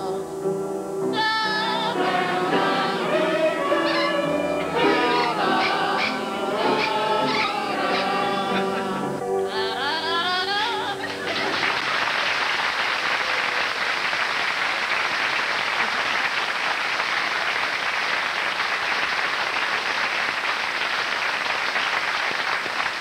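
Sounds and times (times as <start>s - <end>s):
audience applauding: 2.0s - 9.2s, 11.0s - 23.0s.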